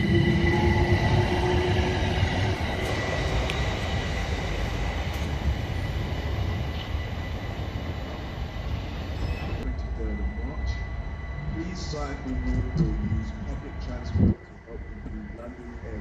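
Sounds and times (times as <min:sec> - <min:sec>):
high electric whine: 0:00.0 - 0:16.0
train wheels rumbling on rail: 0:00.0 - 0:16.0.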